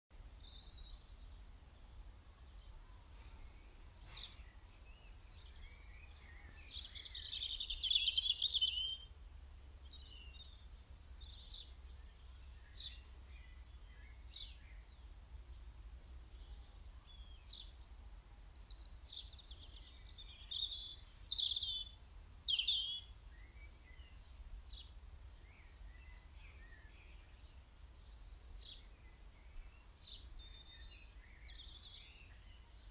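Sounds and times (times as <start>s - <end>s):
small birds twittering: 0.2s - 15.6s, 16.3s - 32.9s.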